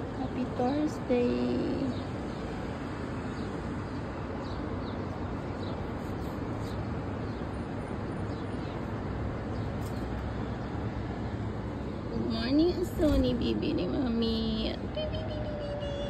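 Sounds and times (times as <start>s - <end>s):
city traffic hum: 0.0s - 16.0s.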